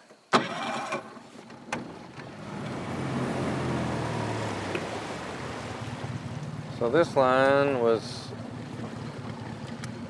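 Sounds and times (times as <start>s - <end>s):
outboard motor running: 0.4s - 10.0s.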